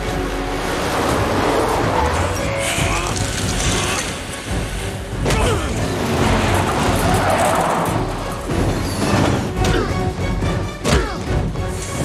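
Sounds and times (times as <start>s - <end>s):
dramatic score music: 0.0s - 12.0s.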